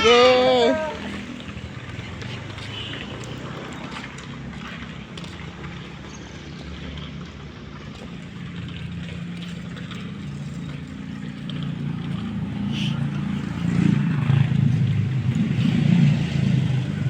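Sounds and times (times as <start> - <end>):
vehicle engine humming: 0.0 - 5.8, 6.4 - 17.0.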